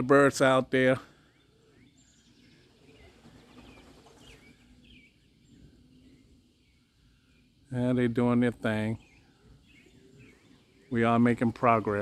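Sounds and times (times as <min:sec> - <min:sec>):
faint outdoor background hum: 0:00.0 - 0:12.0.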